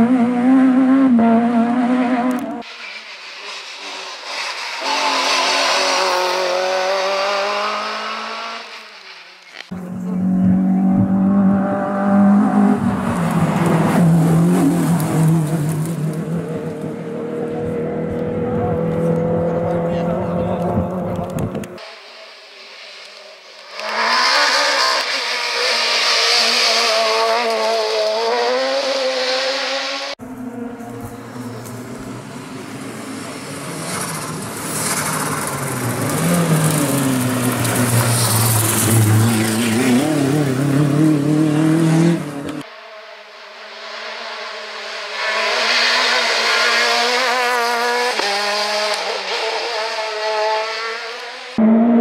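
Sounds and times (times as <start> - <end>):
rally car engine at high revs: 0.0 - 52.0.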